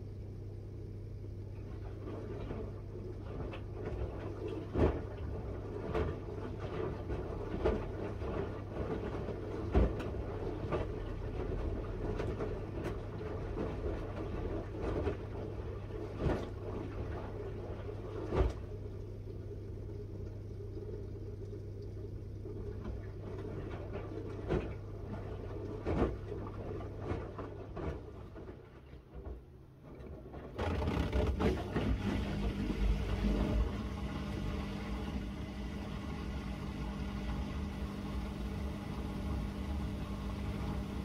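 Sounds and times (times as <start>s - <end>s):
washing machine humming: 0.0s - 41.0s.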